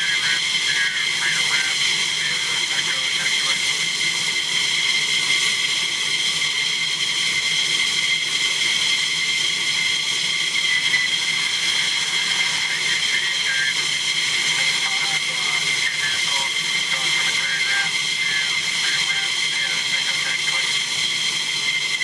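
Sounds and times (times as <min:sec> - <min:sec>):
jet engines idling whine: 0:00.0 - 0:22.0.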